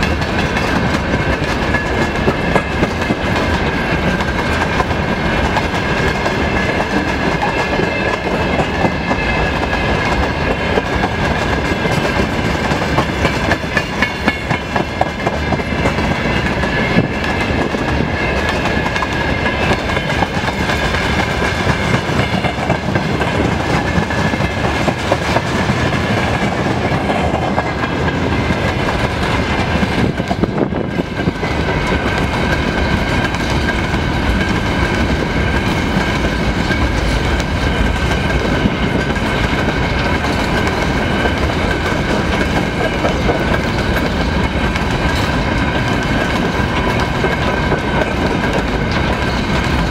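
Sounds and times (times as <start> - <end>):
train wheels knocking over rail joints: 0.0 - 49.9.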